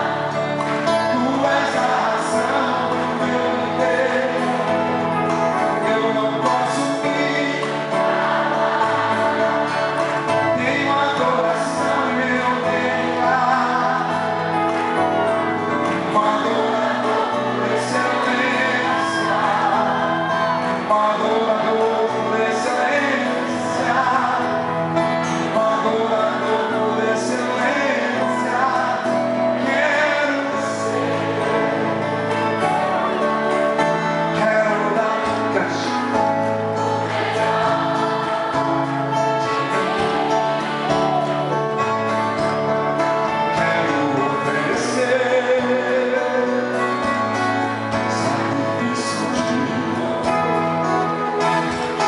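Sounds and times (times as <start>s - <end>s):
acoustic guitar: 0.0s - 52.0s
gospel singing: 0.0s - 52.0s
keyboard: 0.0s - 52.0s.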